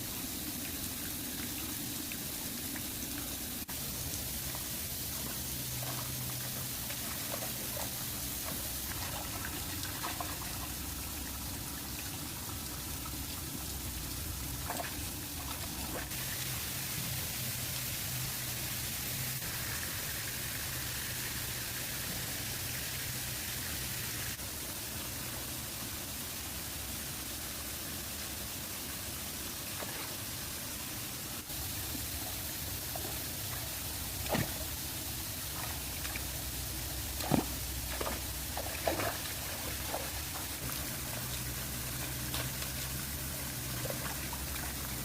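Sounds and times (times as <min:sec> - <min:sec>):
running water rushing: 0:00.0 - 0:45.0.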